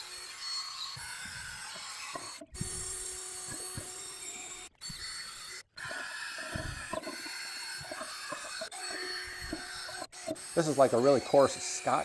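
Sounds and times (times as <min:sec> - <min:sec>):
die grinder whining and scrubbing: 0:00.0 - 0:12.0.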